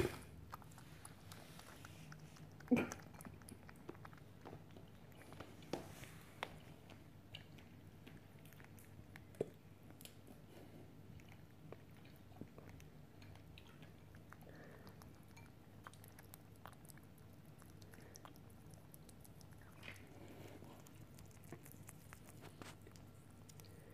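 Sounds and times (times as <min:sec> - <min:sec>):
rabbit chewing: 0:00.0 - 0:23.9.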